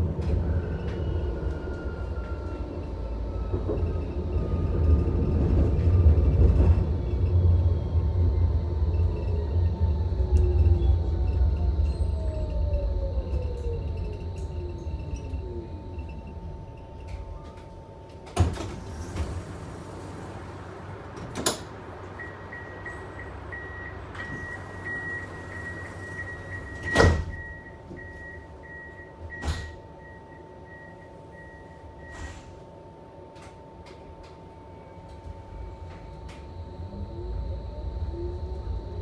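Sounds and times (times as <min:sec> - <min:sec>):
tram braking: 0:00.0 - 0:32.7, 0:34.5 - 0:39.0.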